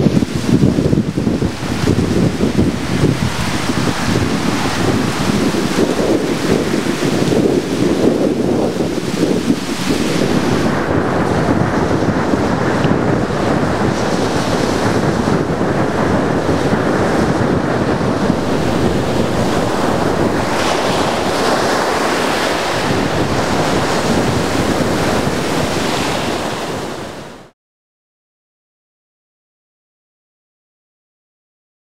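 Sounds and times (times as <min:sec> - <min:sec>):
ocean surf breaking on beach: 0:00.0 - 0:27.5
wind on microphone: 0:00.0 - 0:27.5.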